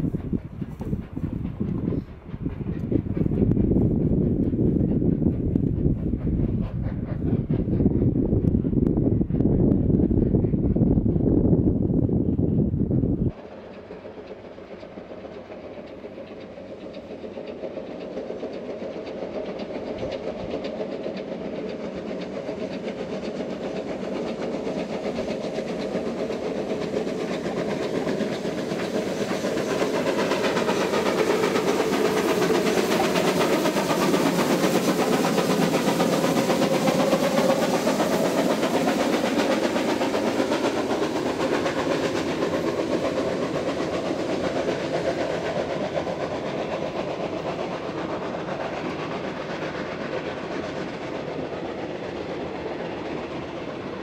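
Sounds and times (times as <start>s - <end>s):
train wagons rolling on rails: 0.0s - 12.5s, 13.2s - 54.0s
steam locomotive passing: 0.0s - 54.0s.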